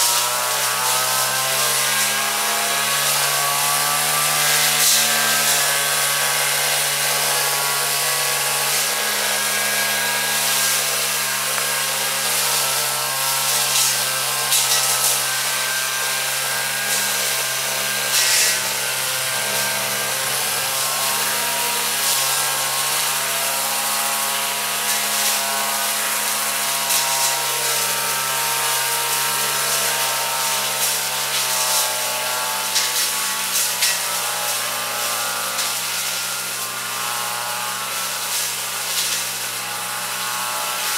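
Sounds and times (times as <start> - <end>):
brush cutter engine running: 0.0 - 40.9.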